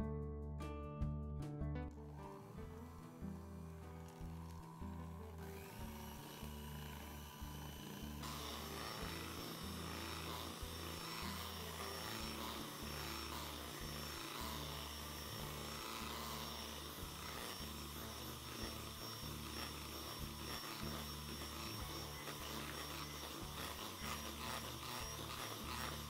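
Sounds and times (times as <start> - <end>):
electric hand mixer whirring: 2.0 - 26.0.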